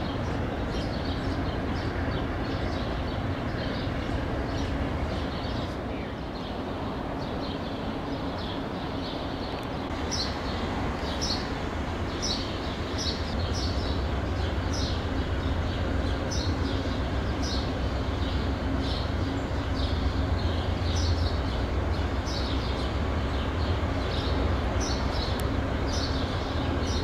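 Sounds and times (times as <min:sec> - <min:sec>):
diesel locomotive rumble: 0:00.0 - 0:27.0.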